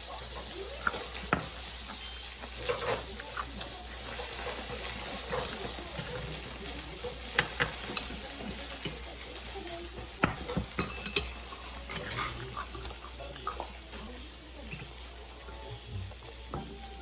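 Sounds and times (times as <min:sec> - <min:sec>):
batter sizzling in oil: 0:00.0 - 0:17.0
utensils clicking against pan: 0:00.0 - 0:17.0.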